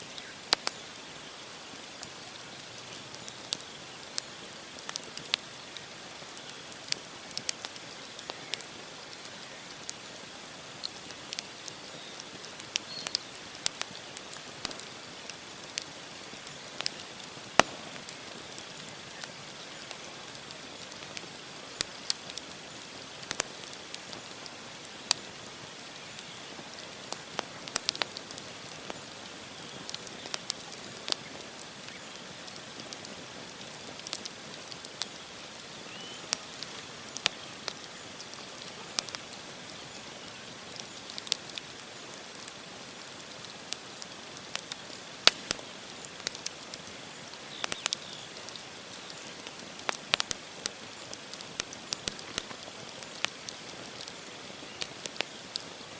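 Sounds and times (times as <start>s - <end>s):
campfire logs crackling: 0.0s - 55.9s.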